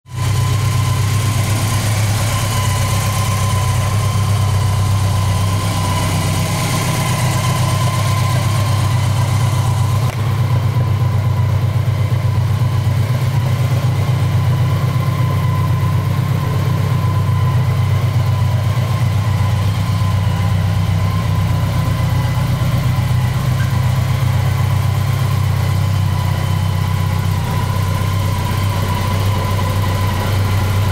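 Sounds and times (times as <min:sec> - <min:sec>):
motorcycle engine idling: 0:00.1 - 0:30.9.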